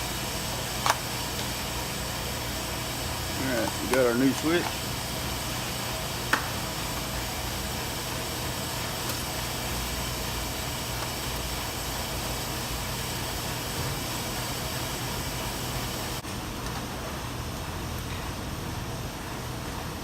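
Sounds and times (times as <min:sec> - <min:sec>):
background hum with hiss: 0:00.0 - 0:20.0.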